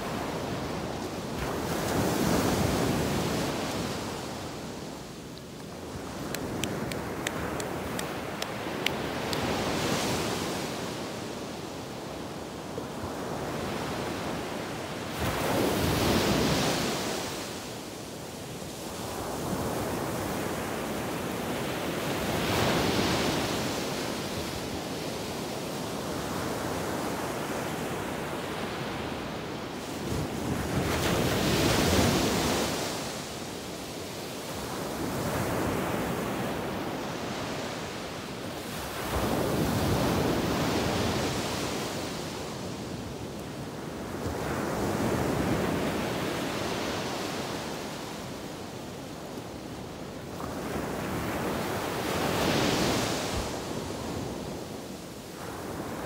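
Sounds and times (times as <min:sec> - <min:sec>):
waves crashing on beach: 0:00.0 - 0:56.0.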